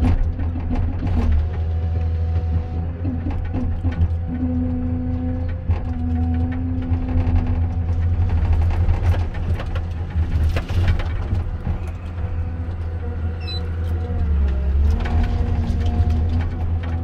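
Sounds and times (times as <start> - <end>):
cracks and knocks of wood: 0.0 - 13.2, 13.8 - 17.0
harvester engine rumble: 0.0 - 17.0
hydraulics: 0.0 - 17.0.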